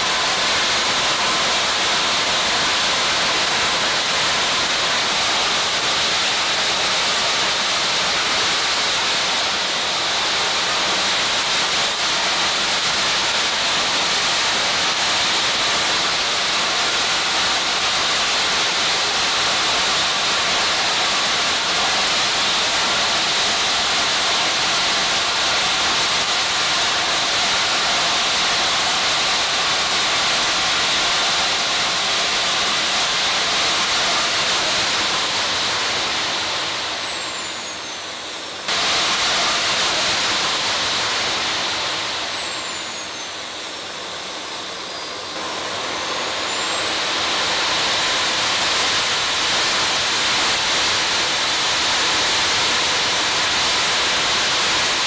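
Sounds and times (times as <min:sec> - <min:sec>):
jet engine roar with turbine whine: 0:00.0 - 0:55.0.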